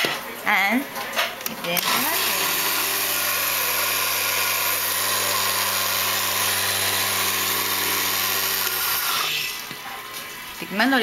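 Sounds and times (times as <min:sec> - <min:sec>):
blender running: 0:01.8 - 0:11.0.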